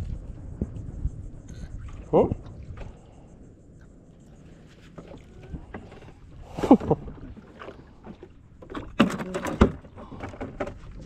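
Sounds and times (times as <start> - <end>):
water lapping at hull: 0.0 - 11.0.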